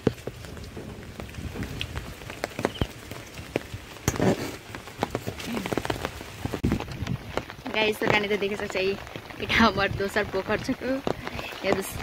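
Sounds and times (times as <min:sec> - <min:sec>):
rain falling: 0:00.0 - 0:12.0
raindrops tapping on umbrella: 0:00.0 - 0:12.0.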